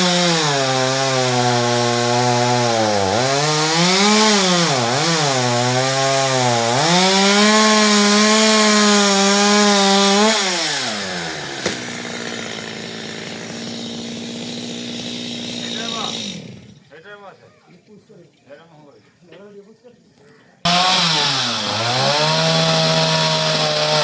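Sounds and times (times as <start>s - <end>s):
chainsaw cutting wood: 0.0s - 16.8s, 20.7s - 24.0s.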